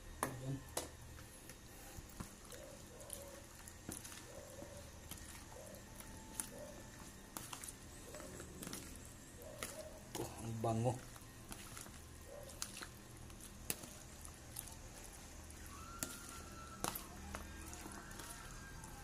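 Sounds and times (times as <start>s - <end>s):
fish squishing by hand: 1.9s - 19.0s.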